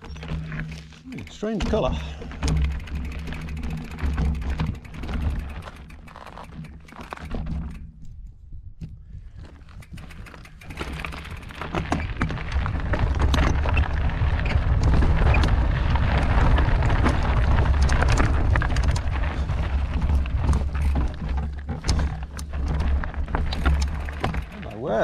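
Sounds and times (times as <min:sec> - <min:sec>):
bike clattering on rocks: 0:00.0 - 0:08.0, 0:09.4 - 0:24.8.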